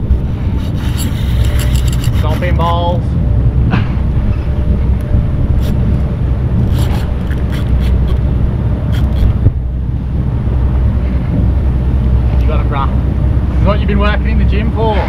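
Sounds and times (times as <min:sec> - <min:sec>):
outboard motor running: 0:00.0 - 0:15.0
wind buffeting microphone: 0:00.0 - 0:15.0.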